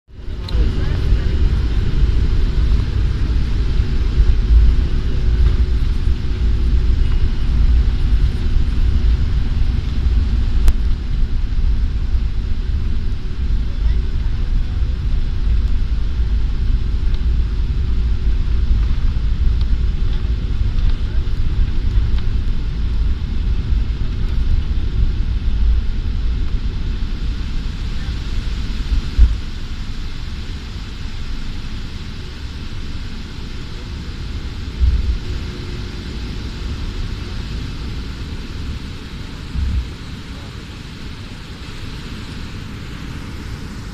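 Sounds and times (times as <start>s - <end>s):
airliner engines rumbling: 0.1s - 43.9s.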